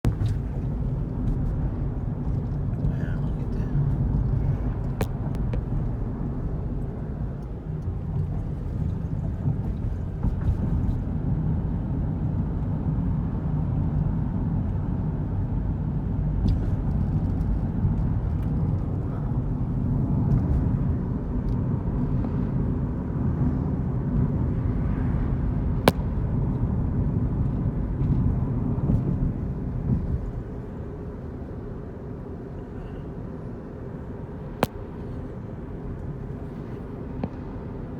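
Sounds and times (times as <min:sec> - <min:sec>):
car road and engine rumble: 0:00.0 - 0:37.9.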